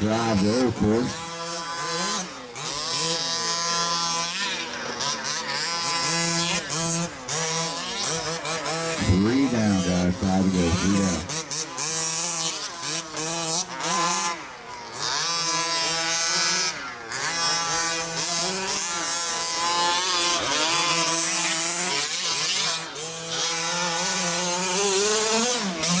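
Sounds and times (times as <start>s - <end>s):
rc buggy engines revving: 0.0s - 26.0s.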